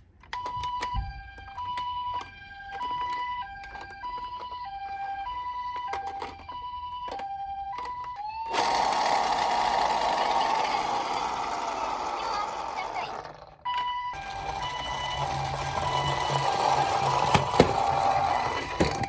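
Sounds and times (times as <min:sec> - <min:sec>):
toy electronic siren: 0:00.3 - 0:19.0.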